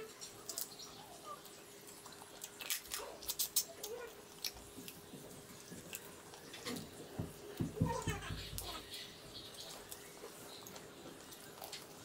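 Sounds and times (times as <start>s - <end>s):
close chewing: 0.0s - 12.0s.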